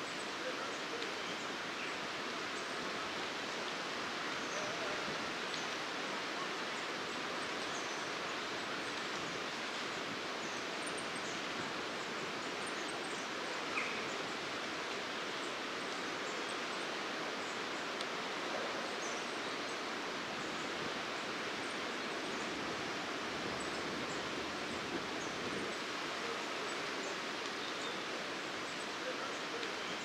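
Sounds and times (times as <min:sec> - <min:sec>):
woodland background rushing: 0:00.0 - 0:30.0.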